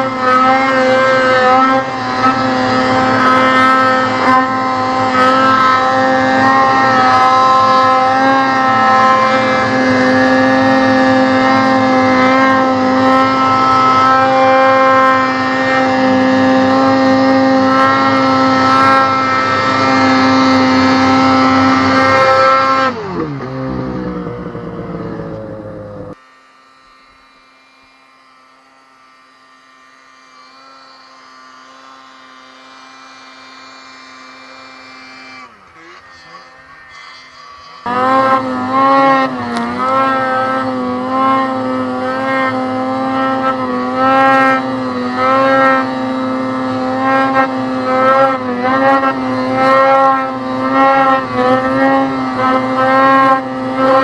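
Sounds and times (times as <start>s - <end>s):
snowmobile engine running hard: 0.0s - 26.2s, 29.9s - 54.0s
faint engine hum: 0.0s - 54.0s.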